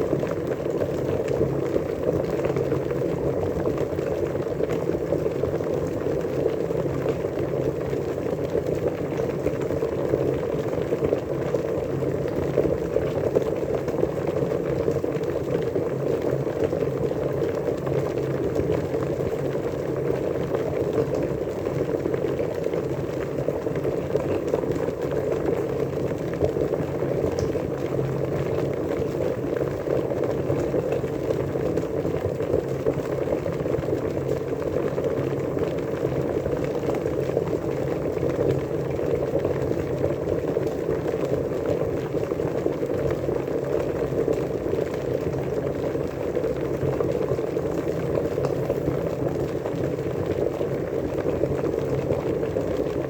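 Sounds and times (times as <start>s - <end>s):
water boiling and bubbling: 0.0s - 53.0s.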